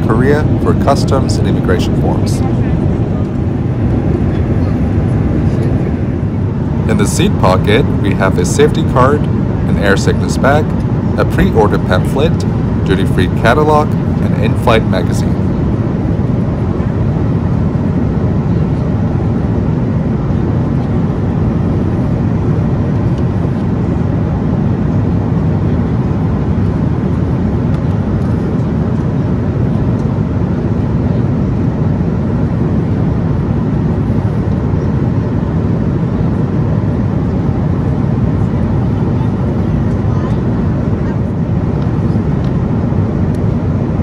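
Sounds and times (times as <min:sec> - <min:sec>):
airplane engines rumbling: 0:00.0 - 0:44.0.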